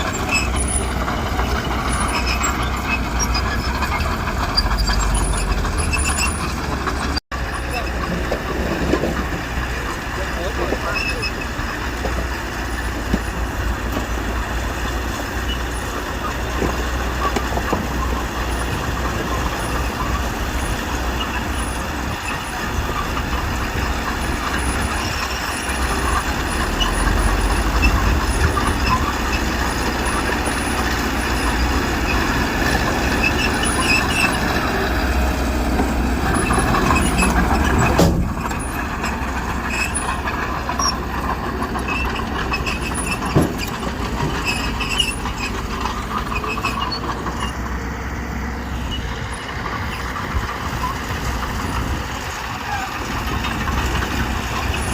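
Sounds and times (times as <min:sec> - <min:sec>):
diesel machinery engine running: 0:00.0 - 0:54.9.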